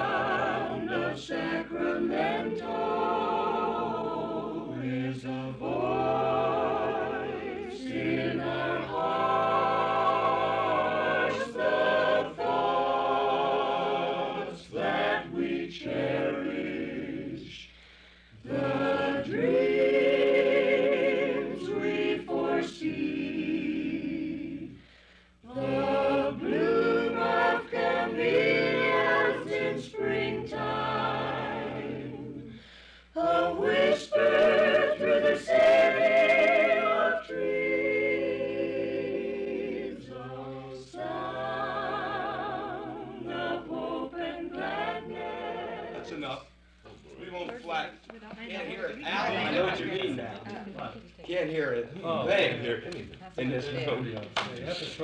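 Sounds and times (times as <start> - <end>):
vocal group singing a jingle: 0.0 - 47.5.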